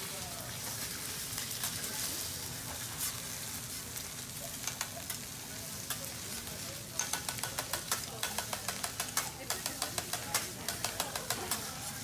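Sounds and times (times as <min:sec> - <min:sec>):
egg sizzling on a griddle: 0:00.0 - 0:12.0.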